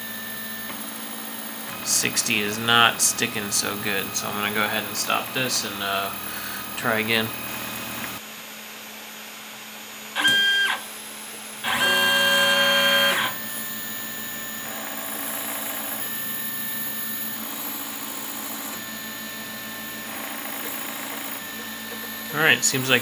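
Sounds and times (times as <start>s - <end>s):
stepper motors whining: 0.0s - 8.2s, 10.2s - 11.0s, 11.6s - 23.0s.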